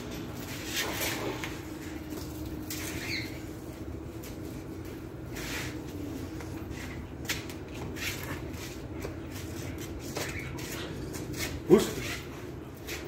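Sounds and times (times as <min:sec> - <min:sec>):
puppy scuffling on concrete: 0:00.0 - 0:13.0.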